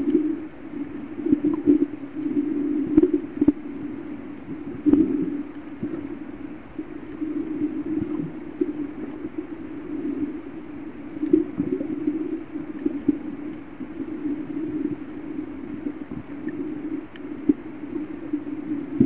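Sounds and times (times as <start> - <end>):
underwater low hum: 0.0 - 19.0.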